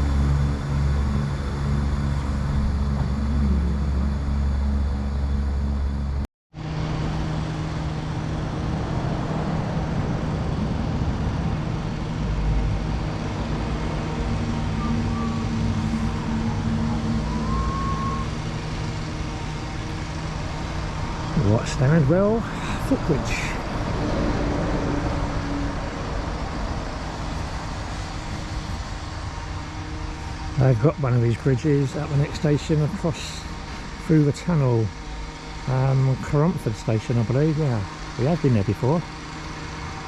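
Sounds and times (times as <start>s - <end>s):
droning engine noise: 0.0s - 40.0s.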